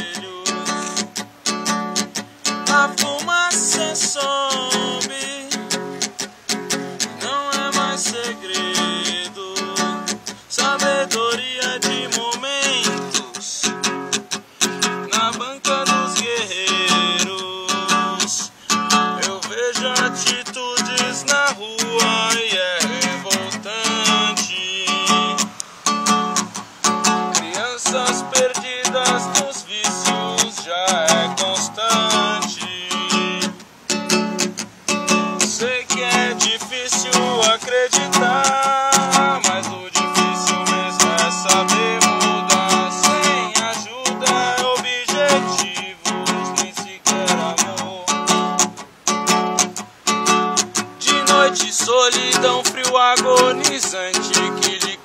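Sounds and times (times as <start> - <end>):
acoustic guitar strummed: 0.0 - 55.0.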